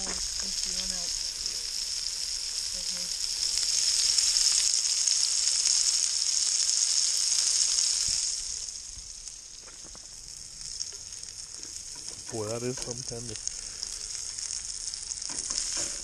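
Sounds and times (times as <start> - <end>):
steak sizzling in skillet: 0.0 - 16.0.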